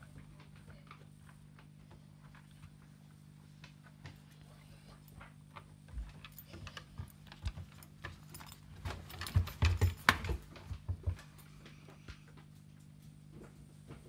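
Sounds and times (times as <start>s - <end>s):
aquarium equipment hum: 0.0s - 14.0s.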